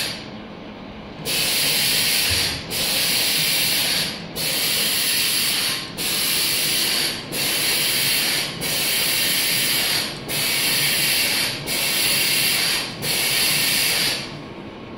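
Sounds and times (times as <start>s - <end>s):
vacuum gripper hissing: 1.3s - 14.2s.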